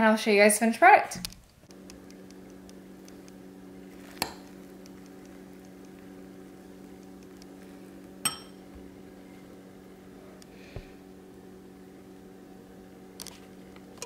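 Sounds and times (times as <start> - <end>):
steady low hum: 1.1 - 14.0.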